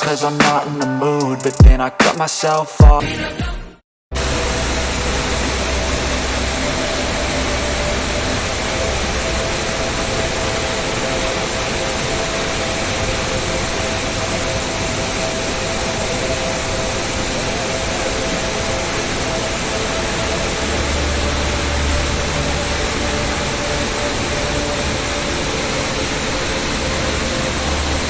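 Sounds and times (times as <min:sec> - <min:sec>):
waterfall rushing: 0:04.2 - 0:28.0.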